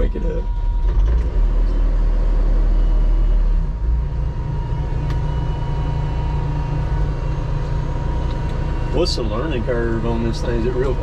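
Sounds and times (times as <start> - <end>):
diesel engine cranking and idling: 0.0 - 11.0.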